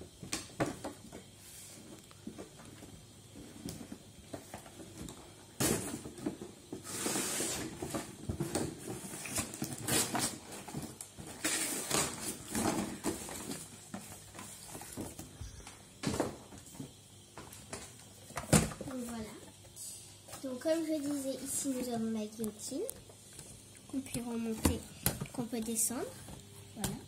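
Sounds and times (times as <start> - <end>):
cardboard and plastic rustling: 0.2 - 19.4, 20.4 - 22.9.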